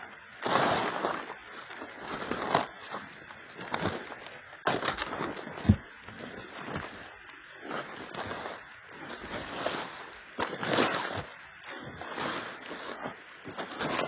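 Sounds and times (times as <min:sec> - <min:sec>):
boots on dry leaves: 0:00.0 - 0:14.0.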